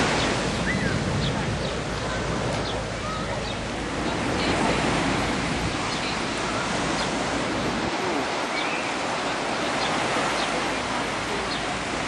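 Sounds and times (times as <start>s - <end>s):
ocean surf breaking on beach: 0.0s - 12.0s.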